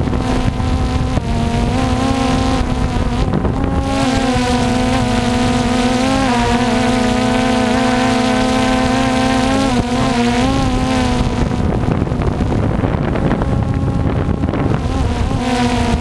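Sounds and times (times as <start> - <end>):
drone propellers whining: 0.0 - 16.0
wind rumbling on microphone: 0.0 - 16.0.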